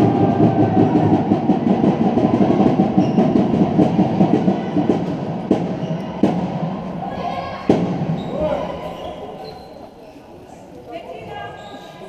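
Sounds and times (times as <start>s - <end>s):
crowd voices echoing: 0.0s - 12.0s.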